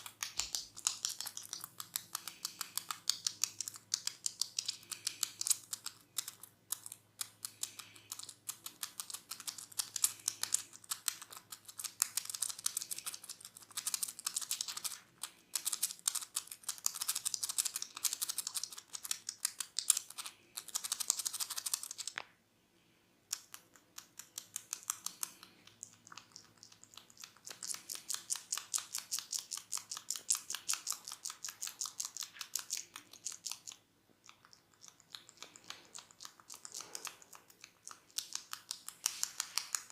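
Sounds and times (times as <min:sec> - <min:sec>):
hair crackling between fingers: 0:00.0 - 0:22.3, 0:23.3 - 0:39.9.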